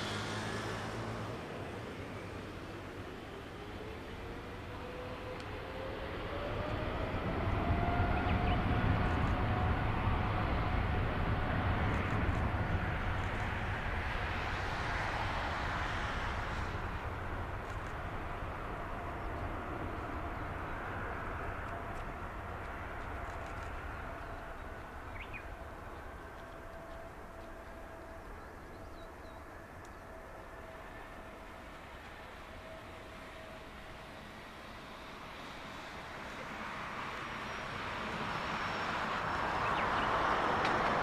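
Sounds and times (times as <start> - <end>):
jet airliner passing: 0.0 - 41.0
jet engine whine: 0.0 - 41.0.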